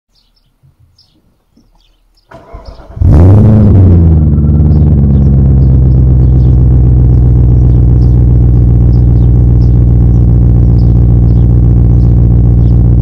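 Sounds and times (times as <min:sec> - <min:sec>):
car engine idling: 0:02.3 - 0:13.0.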